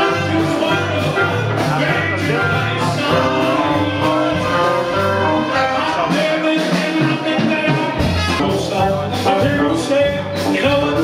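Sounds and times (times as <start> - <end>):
live band music: 0.0 - 11.0
person singing: 0.0 - 11.0.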